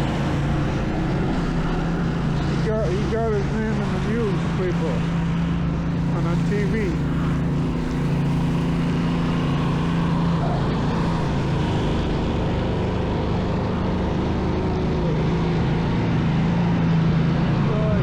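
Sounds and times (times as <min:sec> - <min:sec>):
street noise hiss: 0:00.0 - 0:16.7
motor engine humming: 0:00.0 - 0:18.0.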